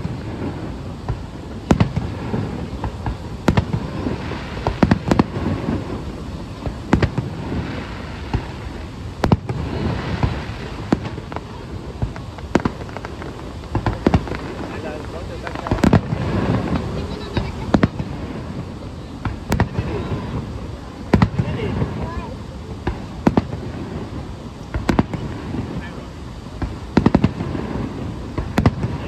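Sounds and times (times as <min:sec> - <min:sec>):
firework shells bursting: 0:00.0 - 0:29.0
steady rumbling wash: 0:00.0 - 0:29.0.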